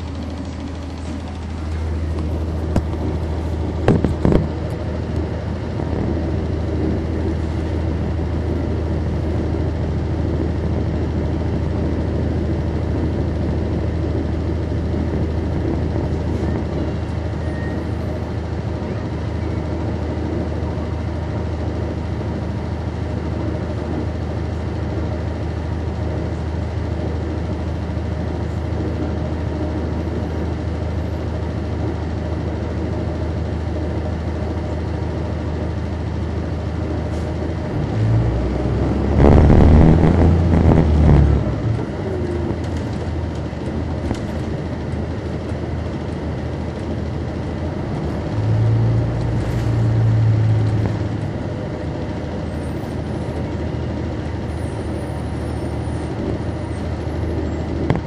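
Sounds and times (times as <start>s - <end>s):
bus diesel engine humming: 0.0s - 58.0s.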